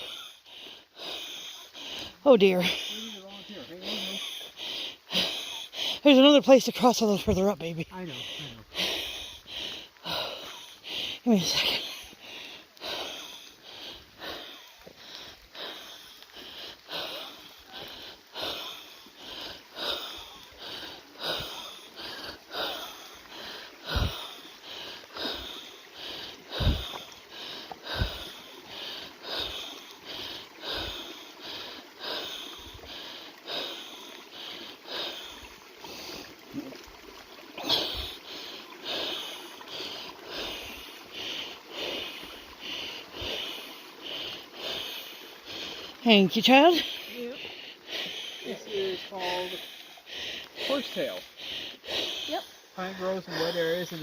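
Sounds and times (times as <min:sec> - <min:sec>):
person breathing heavily: 0:00.0 - 0:06.1, 0:08.0 - 0:36.4, 0:37.6 - 0:53.8.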